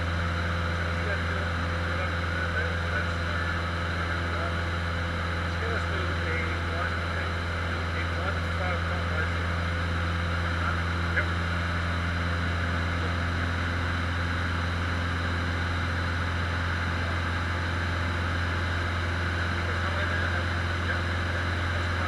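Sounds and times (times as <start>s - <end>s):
small plane engine droning: 0.0s - 22.0s.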